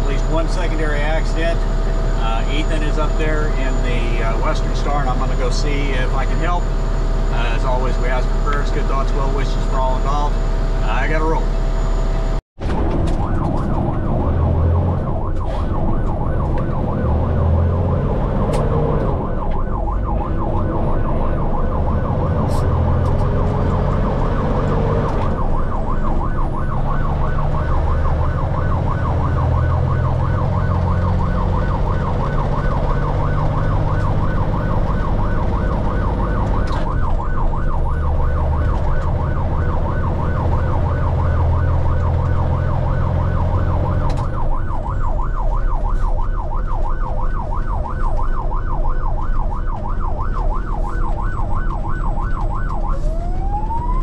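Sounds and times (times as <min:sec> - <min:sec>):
electronic siren yelping: 0:00.0 - 0:54.0
truck engine running: 0:00.0 - 0:54.0.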